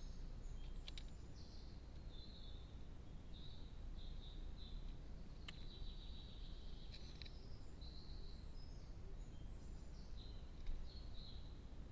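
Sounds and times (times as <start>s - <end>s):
high-pitched bird song: 0.0s - 11.6s
low steady hiss: 0.0s - 11.9s.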